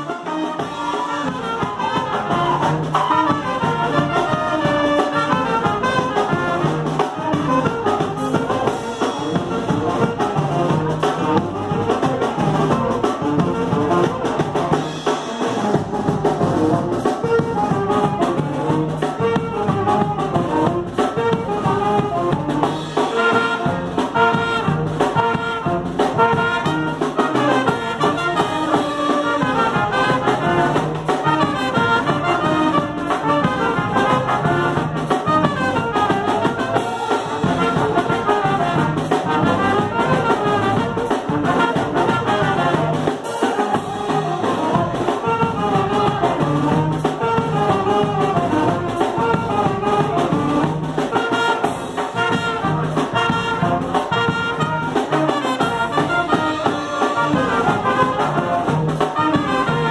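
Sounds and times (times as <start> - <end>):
drum kit: 0.0 - 59.9
trumpets and saxophones: 0.0 - 59.9.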